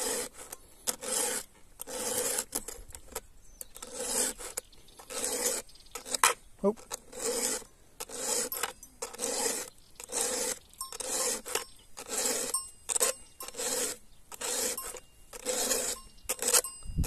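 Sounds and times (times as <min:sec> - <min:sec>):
file rasping on chainsaw chain: 0:00.0 - 0:17.0.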